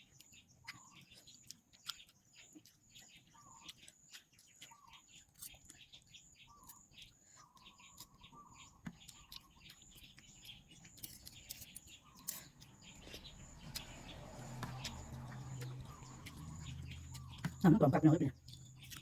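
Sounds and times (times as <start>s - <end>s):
chewing and mouth clicks: 0.0s - 19.0s
faint high chirps: 3.3s - 19.0s.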